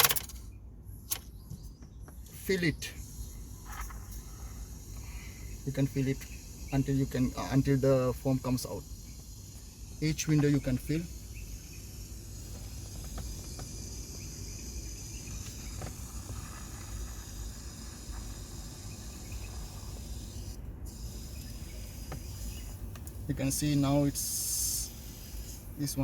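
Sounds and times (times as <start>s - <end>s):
aerosol can spraying hiss: 3.1s - 26.0s.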